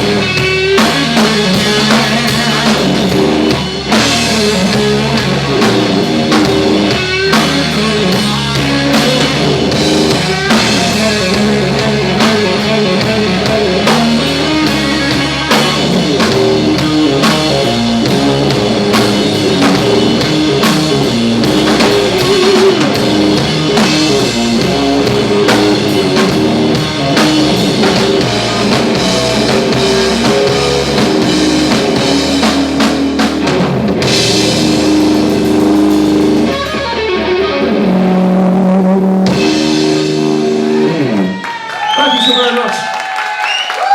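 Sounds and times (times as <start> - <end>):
electric guitar lead: 0.0 - 41.8
bass guitar: 0.0 - 42.3
drum kit: 0.0 - 43.9.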